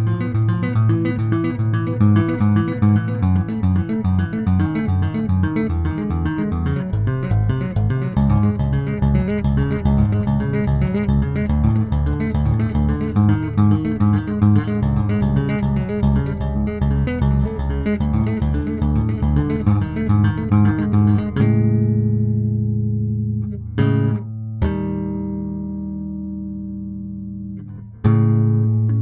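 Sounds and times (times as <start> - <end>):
electric bass notes: 0.0 - 29.0.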